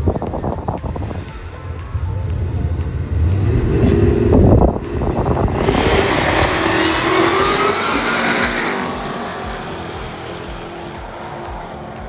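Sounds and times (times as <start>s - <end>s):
drag car engine accelerating: 0.0s - 12.0s.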